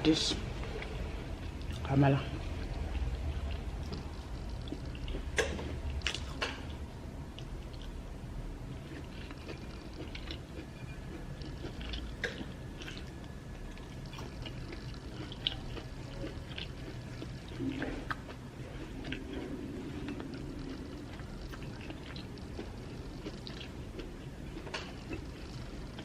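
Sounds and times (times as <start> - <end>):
chewing food: 0.0 - 8.0, 8.6 - 26.0.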